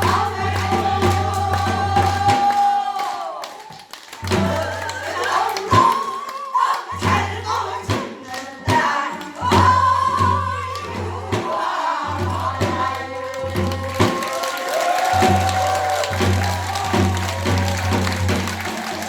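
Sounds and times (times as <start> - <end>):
voices singing folk song together: 0.0 - 19.0.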